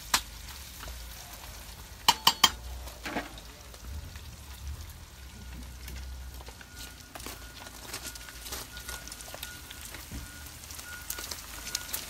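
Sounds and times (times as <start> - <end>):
bacon sizzling in a pan: 0.0 - 12.0.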